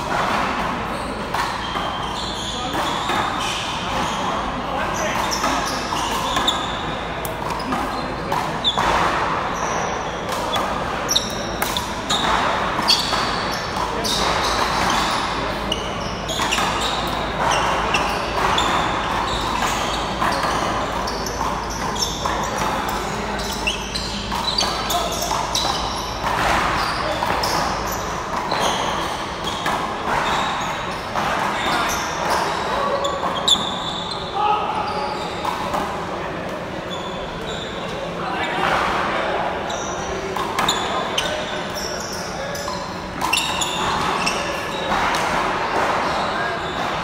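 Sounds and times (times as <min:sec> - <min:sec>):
sneakers squeaking on court: 0:00.0 - 0:36.0, 0:36.6 - 0:47.0.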